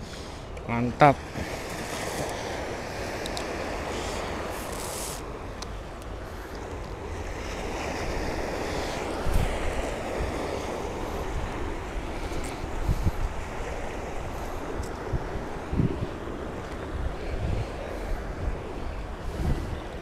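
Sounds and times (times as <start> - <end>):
sea waves breaking: 0.0 - 20.0
wind buffeting microphone: 1.2 - 20.0.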